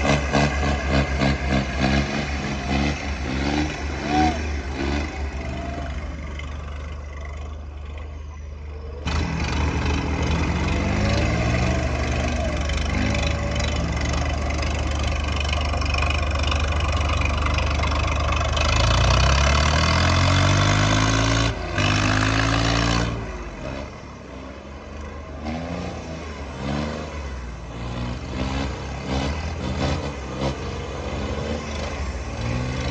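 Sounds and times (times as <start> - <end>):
tractor diesel engines revving: 0.0 - 32.9.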